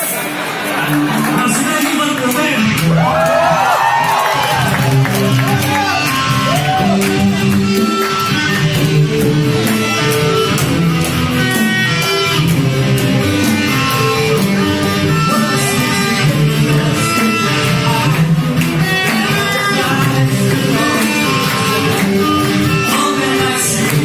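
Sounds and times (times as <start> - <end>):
drum kit: 0.0 - 24.0
electric guitar: 0.0 - 24.0
keyboard: 0.0 - 24.0.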